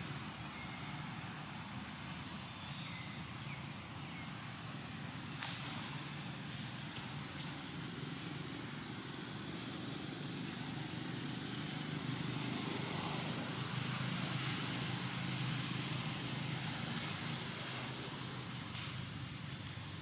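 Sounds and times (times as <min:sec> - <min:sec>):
vehicle engine rumble passing: 0:00.0 - 0:20.0.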